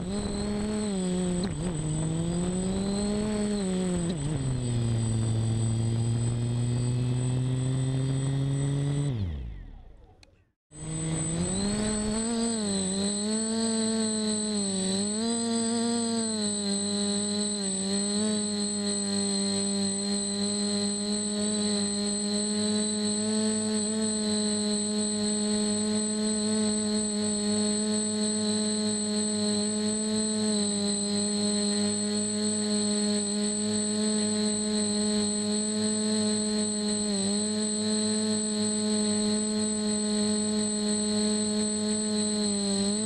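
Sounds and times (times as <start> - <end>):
drone motors humming: 0.0 - 43.0
high whine: 0.0 - 43.0.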